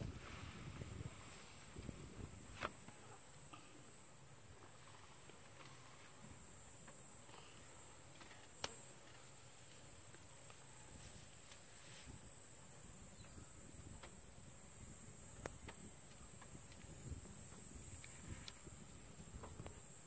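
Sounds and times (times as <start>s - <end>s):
high-pitched insect chorus: 0.3s - 20.0s.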